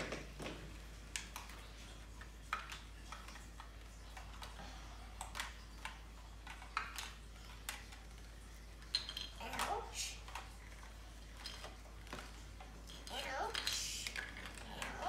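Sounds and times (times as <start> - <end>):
plastic toys clicking: 1.0 - 15.0.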